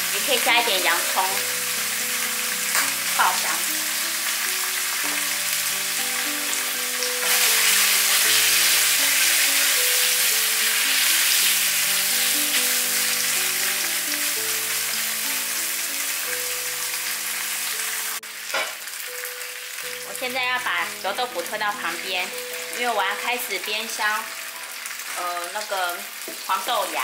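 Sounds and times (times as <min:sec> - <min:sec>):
background music: 0:00.0 - 0:27.0
food sizzling in hot oil: 0:00.0 - 0:27.0.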